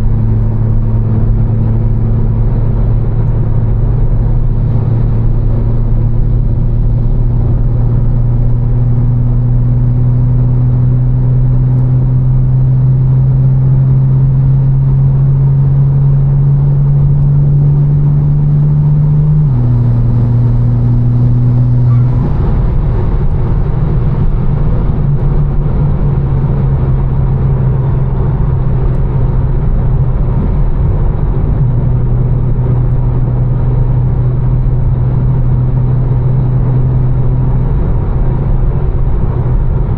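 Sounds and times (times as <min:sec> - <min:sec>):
car exhaust drone: 0:00.0 - 0:39.9
road and tyre noise: 0:00.0 - 0:39.9.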